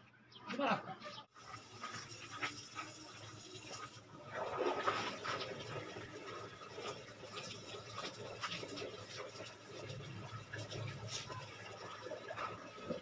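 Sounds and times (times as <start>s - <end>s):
liquid splashing: 1.4s - 13.0s.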